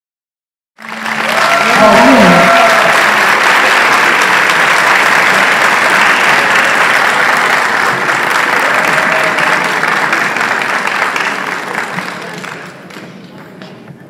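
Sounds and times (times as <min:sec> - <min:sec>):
audience applauding: 0:00.8 - 0:13.8.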